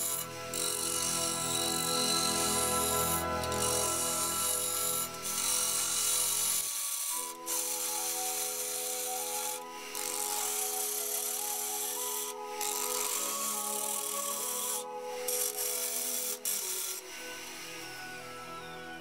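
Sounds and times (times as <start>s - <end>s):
lathe gouge scraping wood: 0.0s - 17.0s
background music with sustained chords: 0.0s - 19.0s.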